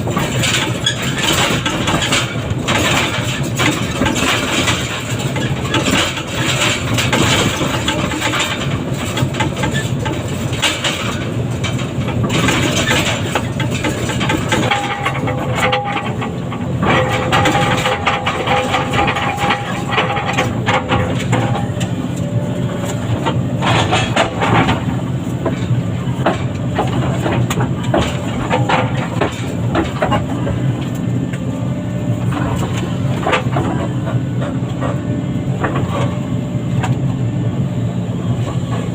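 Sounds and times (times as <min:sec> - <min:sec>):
metallic clanks and knocks: 0:00.0 - 0:31.1, 0:32.2 - 0:36.2
heavy diesel machinery running: 0:00.0 - 0:38.9.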